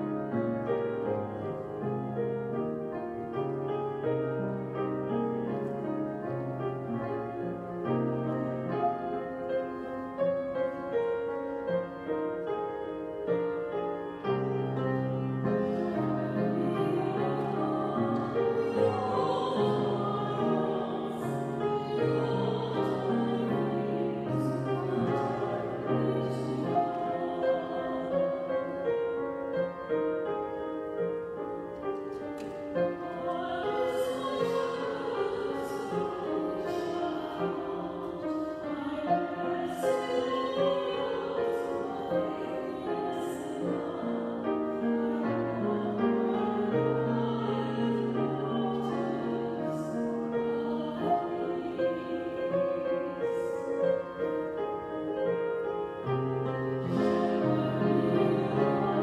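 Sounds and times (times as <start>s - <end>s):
keyboard accompaniment: 0.0s - 59.0s
slow hymn singing: 0.0s - 59.0s.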